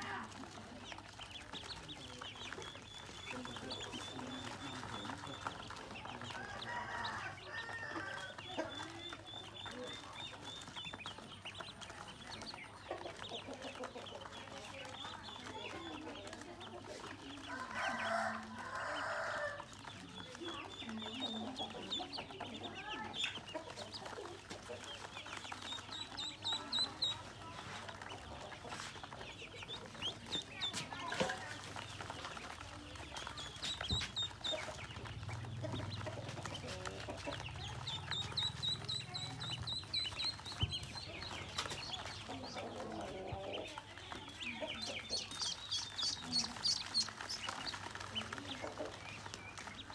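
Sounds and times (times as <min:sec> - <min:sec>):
ducklings peeping: 0:00.0 - 0:49.9.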